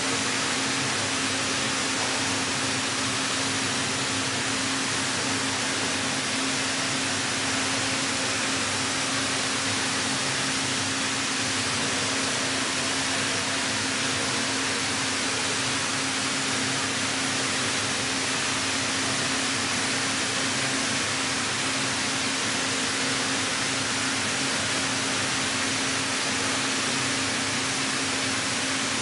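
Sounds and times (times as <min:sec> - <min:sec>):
plate rolling machine running: 0:00.0 - 0:29.0.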